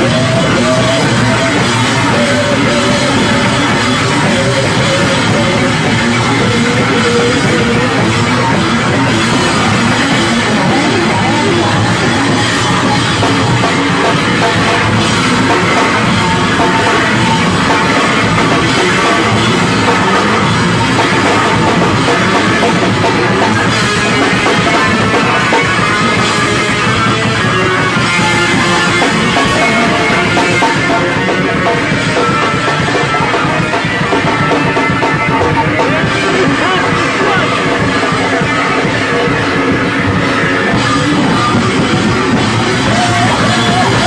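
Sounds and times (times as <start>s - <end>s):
distorted bass guitar: 0.0s - 44.0s
fast pounding drums: 0.0s - 44.0s.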